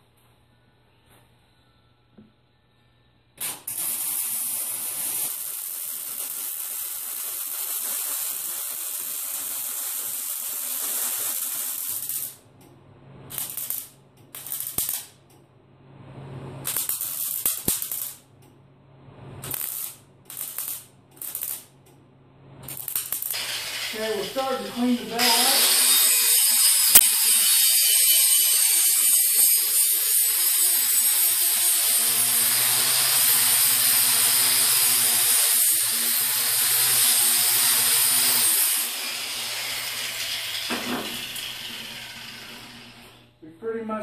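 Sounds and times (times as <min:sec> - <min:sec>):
welding arc crackling and hissing: 0:03.4 - 0:12.5, 0:13.3 - 0:15.2, 0:16.6 - 0:18.3, 0:19.4 - 0:21.8, 0:22.6 - 0:43.2.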